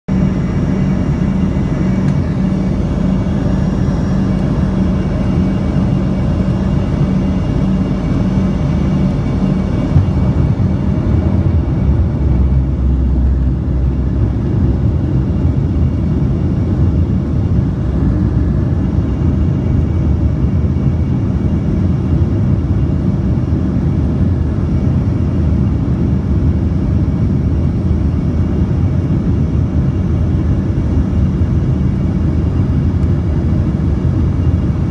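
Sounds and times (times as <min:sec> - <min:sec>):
steady hum: 0:00.1 - 0:34.9.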